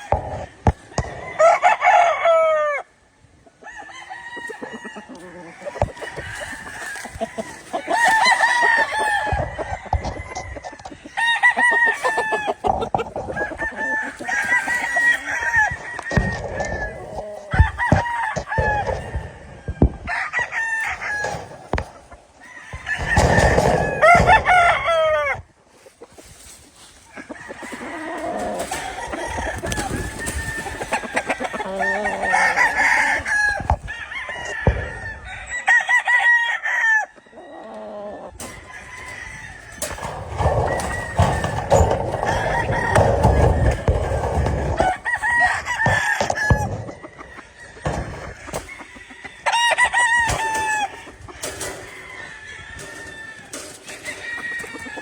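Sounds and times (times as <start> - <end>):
roosters crowing: 0.0 - 55.0
chicken clucking: 3.4 - 35.0, 37.1 - 55.0.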